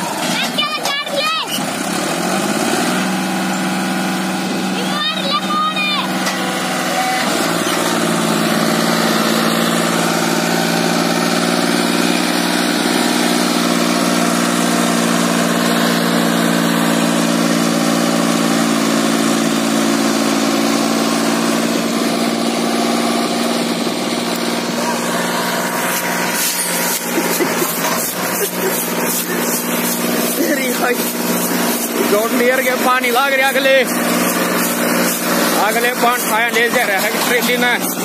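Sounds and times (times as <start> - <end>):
tractor diesel engine working hard: 0.0 - 38.0.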